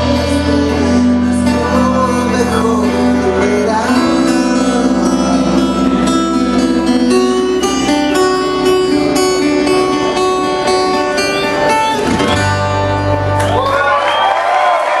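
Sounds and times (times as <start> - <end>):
bass line: 0.0 - 14.2
electric and acoustic guitars: 0.0 - 15.0
live rock band playing: 0.0 - 15.0.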